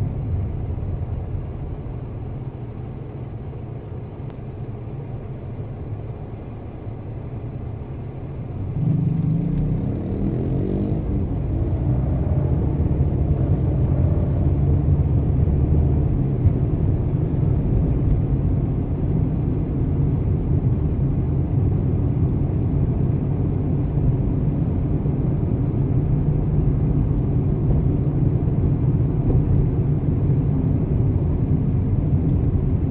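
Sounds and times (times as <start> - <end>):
car engine and tyre rumble: 0.0 - 32.9.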